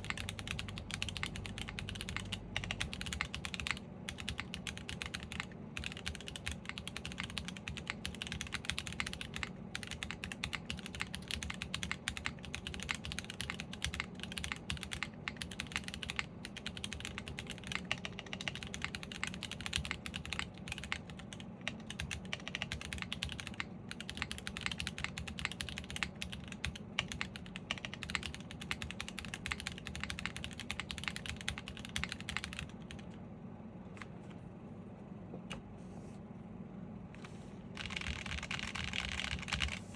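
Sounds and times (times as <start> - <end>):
fast typing on mechanical keyboard: 0.0 - 33.2, 37.7 - 39.9.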